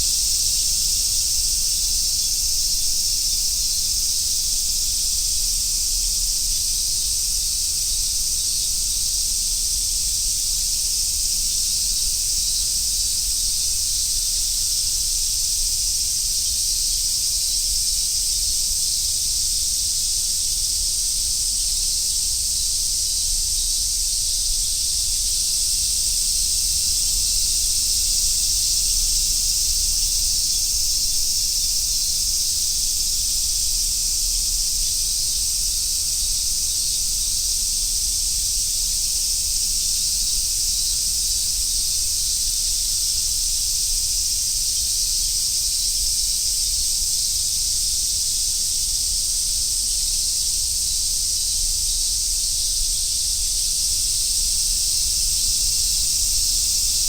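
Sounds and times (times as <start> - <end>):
cicadas chorus sizzling: 0.0 - 57.0.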